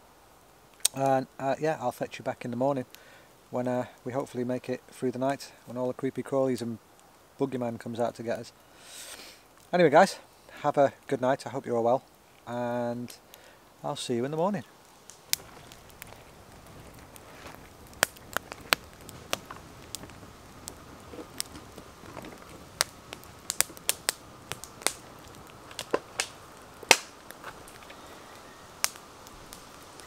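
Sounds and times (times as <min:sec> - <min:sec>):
campfire crackling and popping: 0:00.0 - 0:30.0
low steady hiss: 0:00.0 - 0:30.0.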